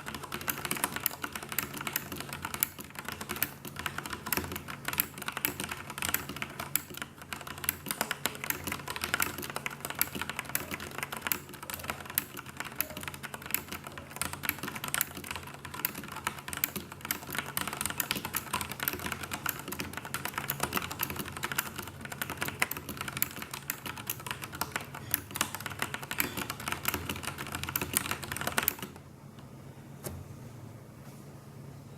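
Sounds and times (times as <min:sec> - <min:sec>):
mechanical keyboard typing: 0:00.0 - 0:29.0.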